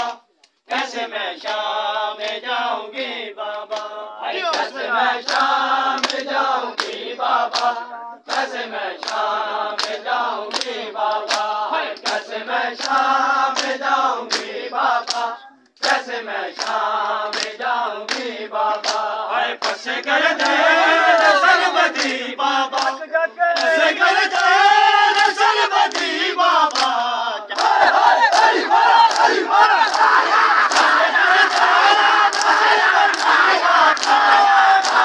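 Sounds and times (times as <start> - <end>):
people chanting together: 0.0 - 35.0.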